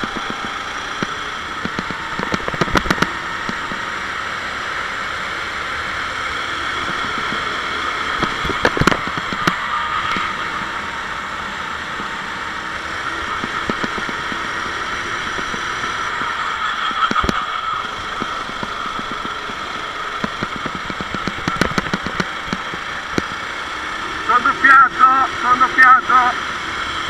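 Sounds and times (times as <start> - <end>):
kart engine running at speed: 0.0 - 27.0.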